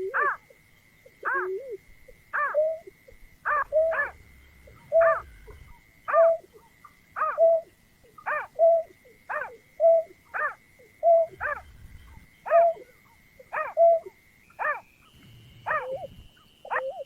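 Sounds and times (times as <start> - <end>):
faint steady high tone: 0.0 - 17.0
snipe calling: 0.0 - 17.0.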